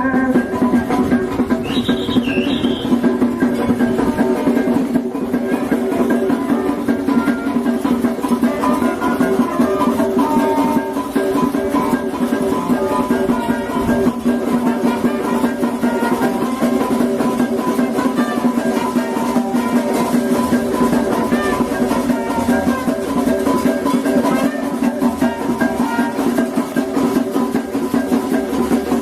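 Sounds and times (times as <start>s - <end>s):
drums and percussion band: 0.0s - 29.0s.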